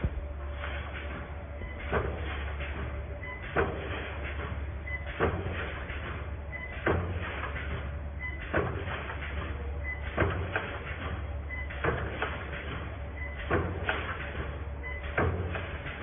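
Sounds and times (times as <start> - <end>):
low machine hum: 0.0 - 16.0
welding machine clunks: 0.0 - 16.0.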